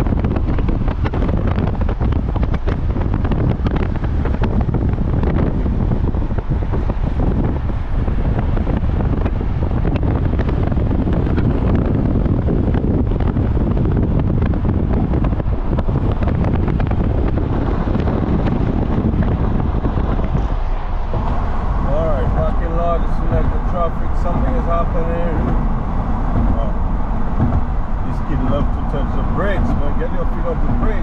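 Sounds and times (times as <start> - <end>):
car road noise: 0.0 - 31.0
wind buffeting microphone: 0.0 - 31.0.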